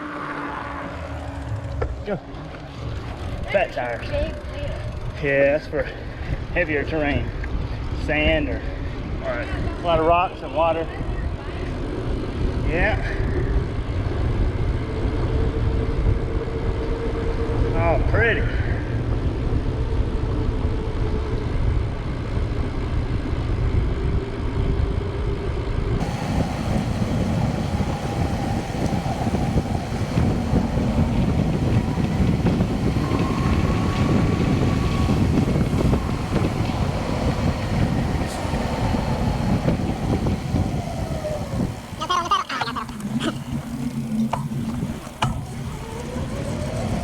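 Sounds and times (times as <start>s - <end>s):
bicycle tyres rolling on road: 0.0s - 47.0s
wind buffeting microphone: 0.9s - 47.0s.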